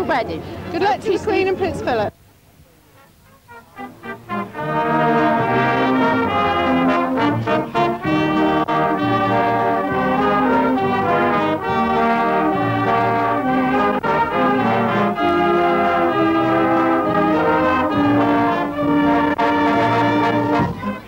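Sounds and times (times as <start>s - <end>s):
brass chords: 2.8s - 21.0s.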